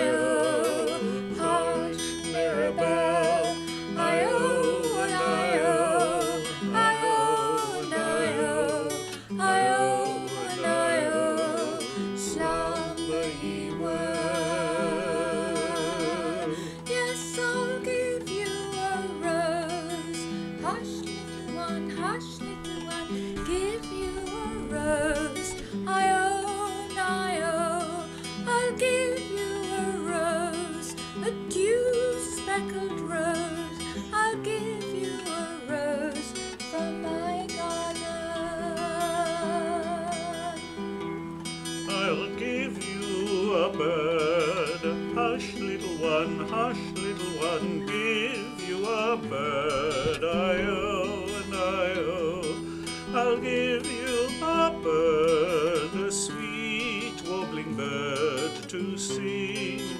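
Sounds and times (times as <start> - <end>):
woman and man singing lullaby: 0.0 - 40.8, 41.8 - 59.9
acoustic guitar: 0.0 - 59.9.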